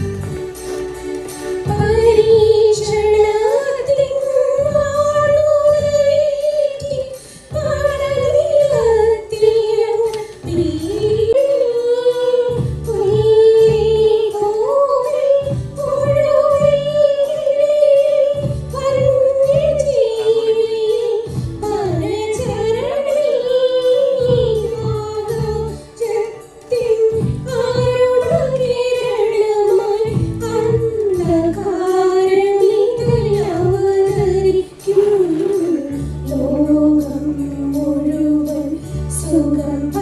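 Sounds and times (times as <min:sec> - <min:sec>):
instrumental accompaniment with bass: 0:00.0 - 0:40.0
woman singing: 0:01.6 - 0:40.0.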